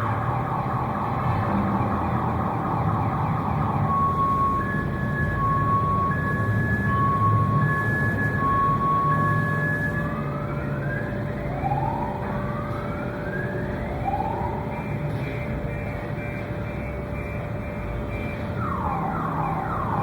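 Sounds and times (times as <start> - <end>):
emergency vehicle siren wailing: 0.0 - 20.0.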